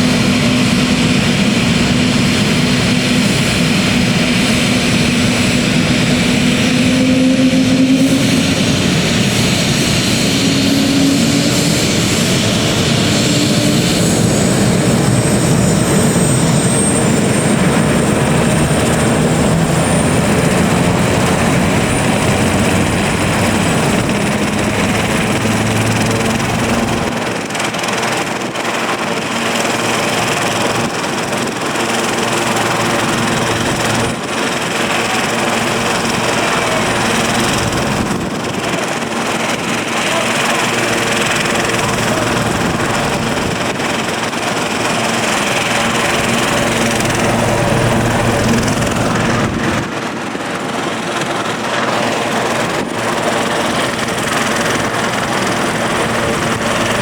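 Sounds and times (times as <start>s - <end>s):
helicopter turbine and rotor: 0.0s - 57.0s.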